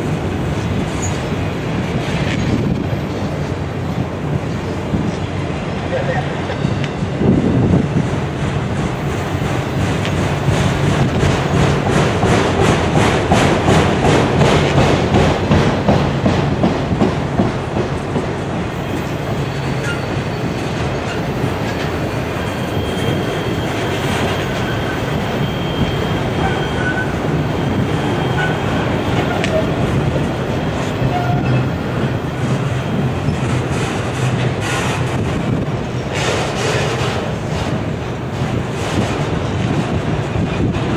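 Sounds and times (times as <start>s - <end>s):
train wheels clickety-clack on rails: 0.0s - 40.9s.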